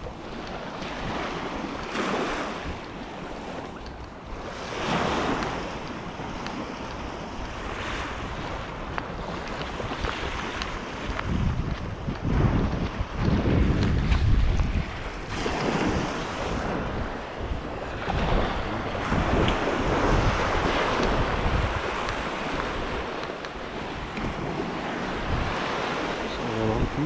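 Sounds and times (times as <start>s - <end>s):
lake waves breaking on shore: 0.0s - 27.0s
wind buffeting microphone: 0.0s - 27.0s.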